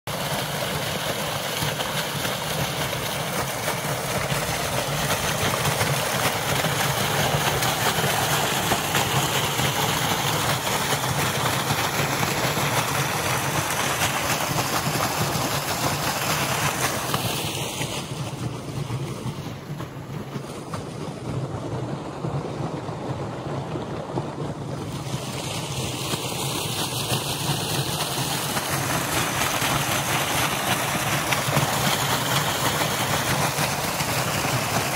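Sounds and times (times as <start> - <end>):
water gushing from pipe: 0.1 - 34.9.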